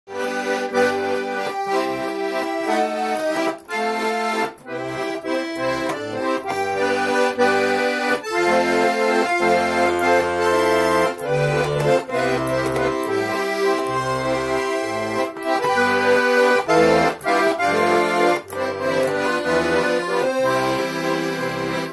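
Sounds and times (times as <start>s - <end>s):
accordion playing lively tune: 0.1s - 21.9s.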